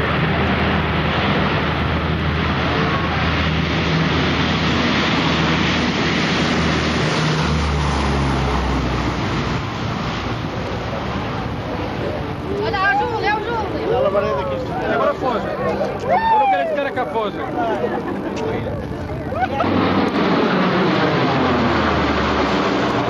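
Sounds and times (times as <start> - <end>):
turboprop aircraft engines droning: 0.0 - 23.0.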